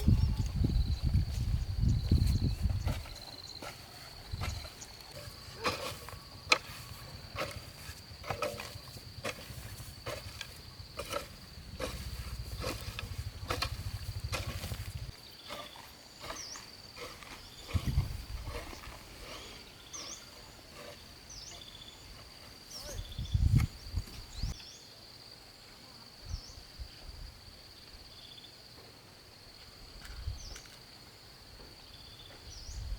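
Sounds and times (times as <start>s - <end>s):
high insect drone: 0.0s - 32.9s.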